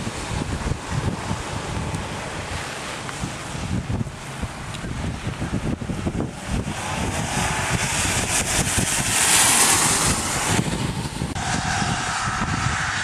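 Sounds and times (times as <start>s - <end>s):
car tyres hissing on wet road: 0.0s - 13.0s
wind buffeting microphone: 0.0s - 13.0s.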